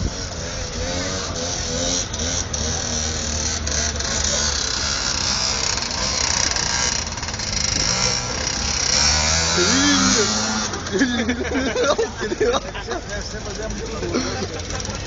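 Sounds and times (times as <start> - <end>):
small motorbike engine buzzing: 0.0 - 15.0.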